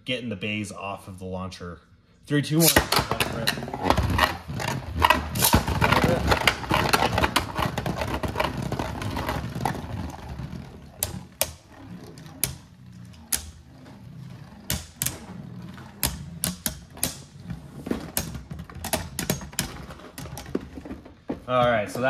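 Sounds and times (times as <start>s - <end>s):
spinning tops scraping and clacking: 2.6s - 20.6s.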